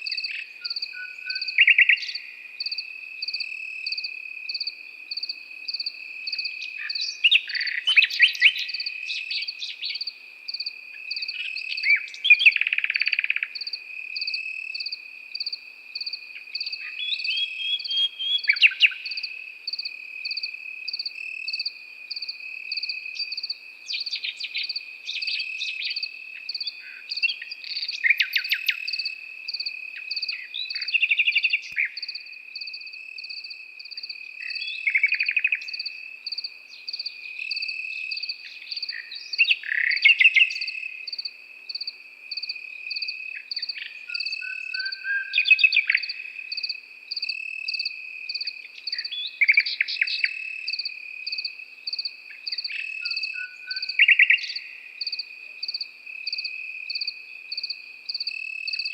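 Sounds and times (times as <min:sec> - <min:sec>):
fast pulsing cricket chirp: 0:00.0 - 0:58.9
nightingale singing: 0:00.0 - 0:58.9.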